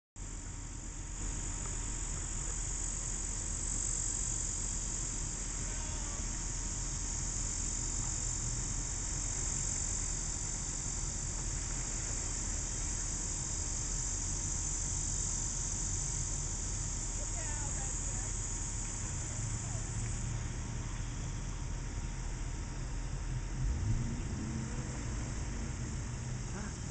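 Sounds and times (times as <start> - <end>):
high-pitched insect chorus: 0.2 - 26.9
low steady rumble: 0.2 - 26.9.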